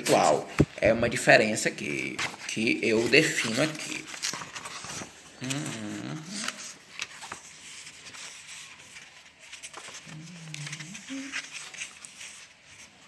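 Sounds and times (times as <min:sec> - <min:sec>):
book pages rustling: 0:00.0 - 0:13.0.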